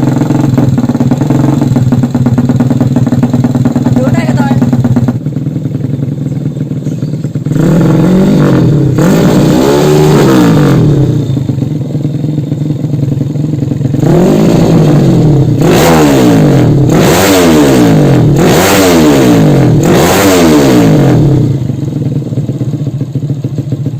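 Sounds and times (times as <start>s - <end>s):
motorcycle engine idling: 0.0s - 23.9s
motorcycle throttle blips: 0.0s - 23.9s.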